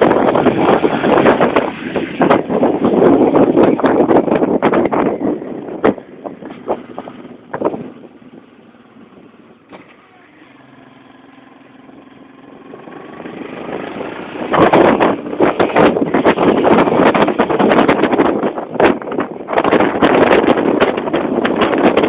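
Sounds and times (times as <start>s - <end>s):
motorcycle engine humming: 0.0s - 22.0s
wind buffeting microphone: 0.0s - 22.0s.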